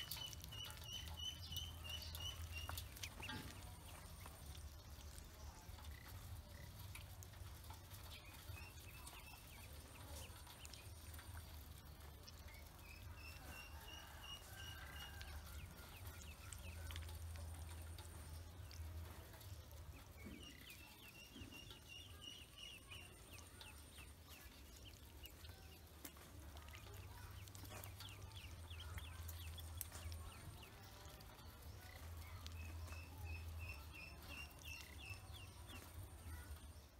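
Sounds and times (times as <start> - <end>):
ducklings peeping: 0.0 - 36.6.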